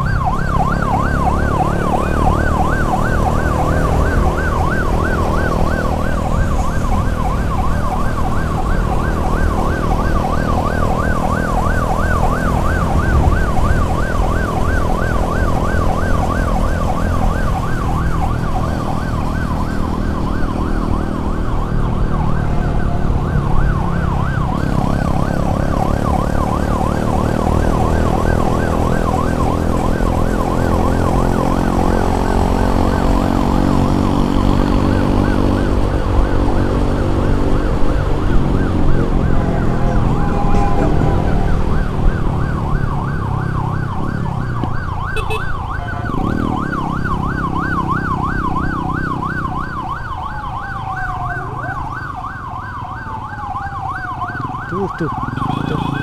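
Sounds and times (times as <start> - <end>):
emergency siren yelping: 0.0 - 56.0
engine and road rumble: 0.0 - 56.0.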